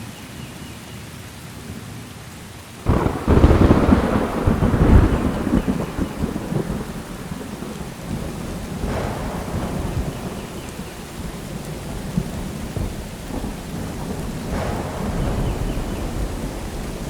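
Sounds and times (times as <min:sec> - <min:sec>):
steady rain: 0:00.0 - 0:17.0
low thunder rumbling: 0:02.9 - 0:17.0.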